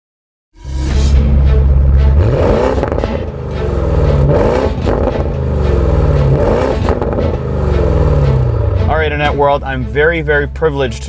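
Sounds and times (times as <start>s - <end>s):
car engine accelerating through gears: 0.9s - 9.8s.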